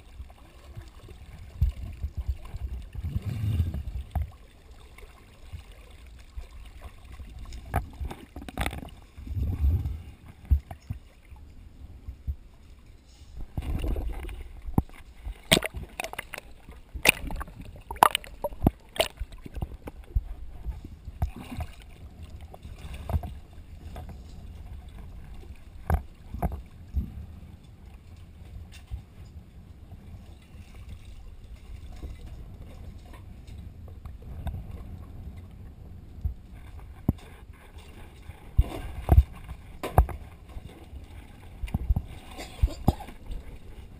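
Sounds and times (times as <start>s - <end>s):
water sloshing and splashing: 0.0s - 43.9s.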